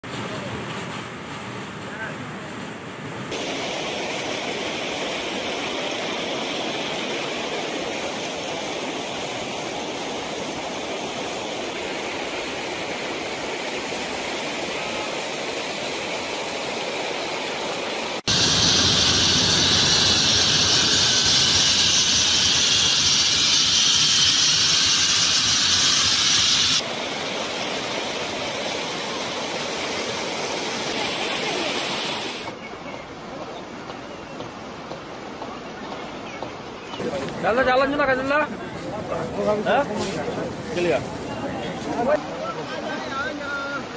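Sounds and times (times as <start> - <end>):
floodwater rushing: 3.3 - 43.9.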